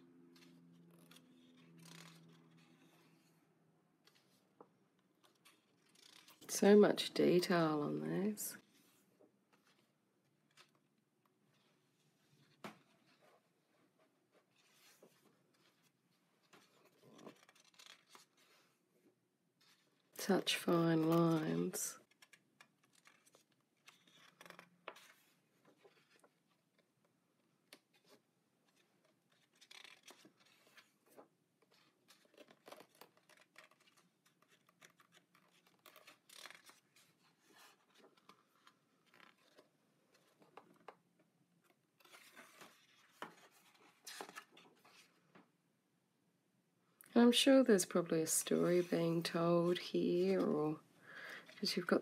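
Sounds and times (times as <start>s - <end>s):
book pages turning: 0.2s - 3.4s, 4.0s - 7.5s, 8.2s - 45.5s, 47.8s - 52.0s.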